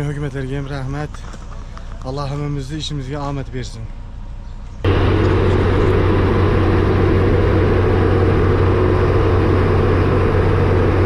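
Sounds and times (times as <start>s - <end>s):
heavy diesel engines running: 0.0s - 11.0s.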